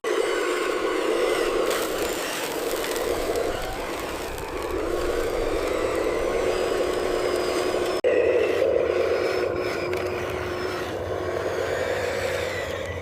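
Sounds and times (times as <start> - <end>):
toy truck motor whirring: 0.1 - 13.0.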